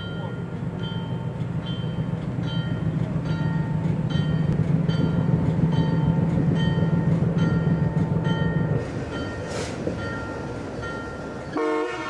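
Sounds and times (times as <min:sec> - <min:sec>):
locomotive bell ringing: 0:00.0 - 0:11.8
locomotive engine drone: 0:00.0 - 0:12.0.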